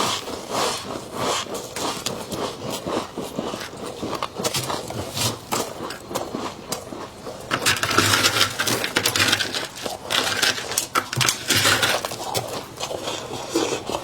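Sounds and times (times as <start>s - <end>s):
freezer frost crunching: 0.0s - 14.0s.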